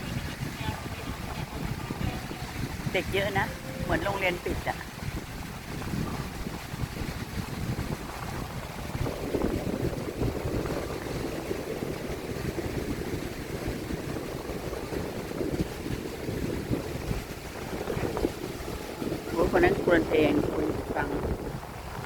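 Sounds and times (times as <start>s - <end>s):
waves washing on beach: 0.0s - 22.0s
wind buffeting microphone: 0.0s - 22.0s.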